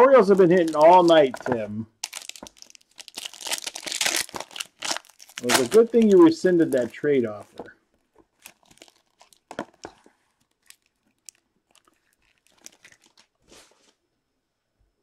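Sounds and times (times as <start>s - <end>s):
foil wrapper crinkling: 0.0s - 13.6s.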